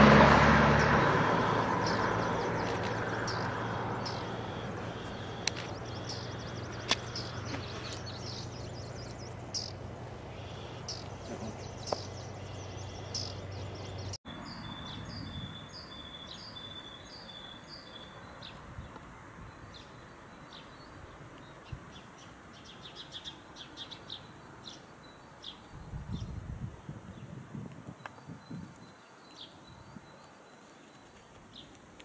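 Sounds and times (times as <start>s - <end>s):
songbirds calling: 0.0s - 32.0s.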